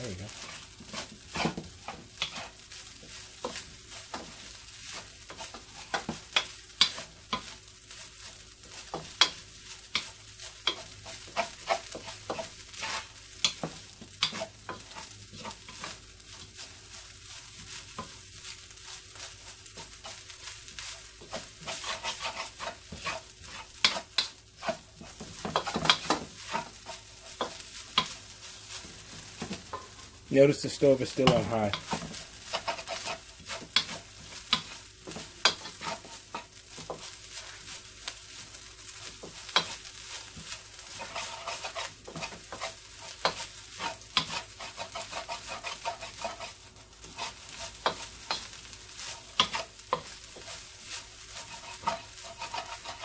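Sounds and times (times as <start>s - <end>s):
rice sizzling in a wok: 0.0s - 53.0s
wooden spatula scraping a pan: 0.0s - 53.0s.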